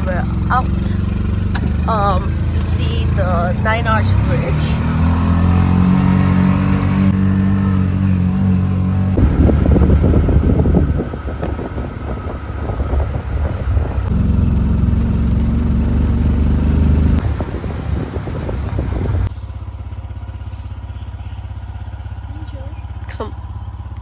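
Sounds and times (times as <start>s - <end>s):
small vehicle engine running: 0.0s - 24.0s.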